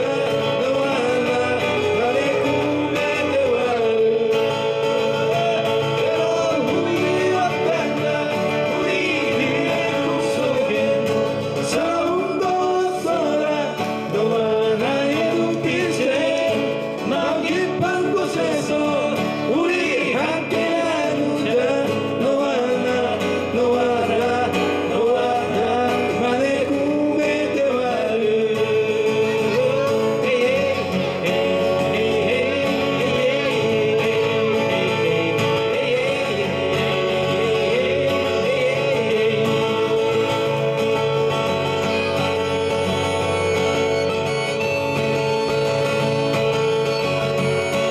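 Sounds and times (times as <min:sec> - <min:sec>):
acoustic guitars playing: 0:00.0 - 0:47.9
men singing: 0:00.0 - 0:47.9.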